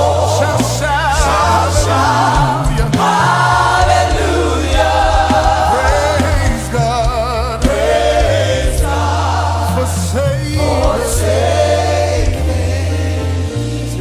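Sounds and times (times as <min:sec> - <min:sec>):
band with sustained bass: 0:00.0 - 0:14.0
voices singing together: 0:00.0 - 0:14.0.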